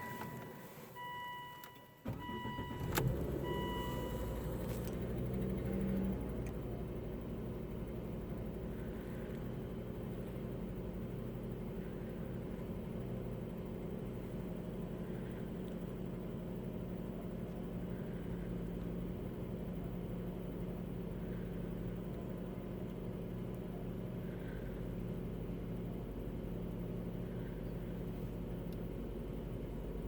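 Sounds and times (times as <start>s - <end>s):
car engine idling with ticking: 1.0s - 30.0s.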